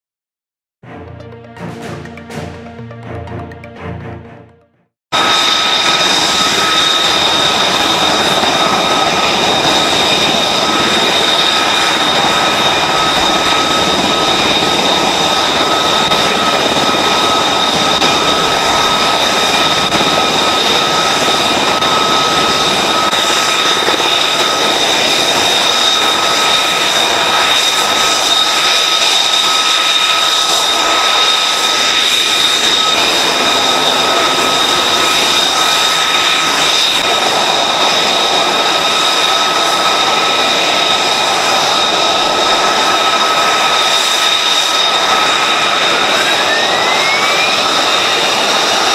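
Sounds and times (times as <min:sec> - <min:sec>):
jet engines running: 0:00.8 - 0:48.9.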